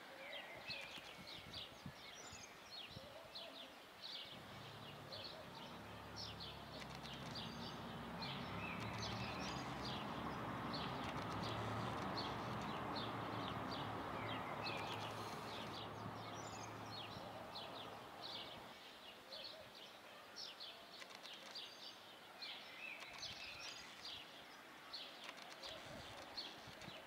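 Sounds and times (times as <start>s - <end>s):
small birds chirping: 0.3s - 27.0s
low hum of city noise: 3.8s - 27.0s.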